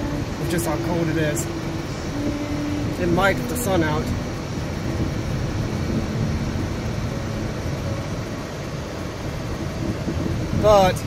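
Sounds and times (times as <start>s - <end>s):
car cabin road and engine noise: 0.0s - 11.0s
tyres on snowy road: 0.0s - 11.0s.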